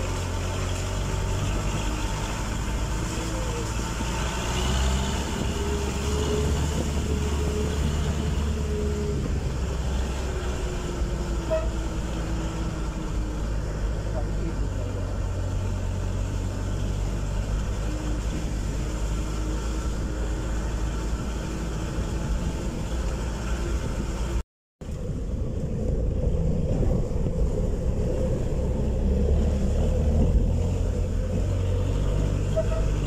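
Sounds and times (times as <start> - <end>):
road vehicle rumble: 0.0 - 33.0.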